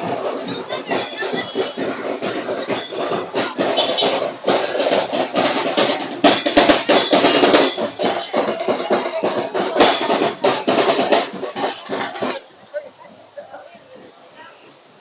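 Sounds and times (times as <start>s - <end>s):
percussion band drumming: 0.0s - 13.4s.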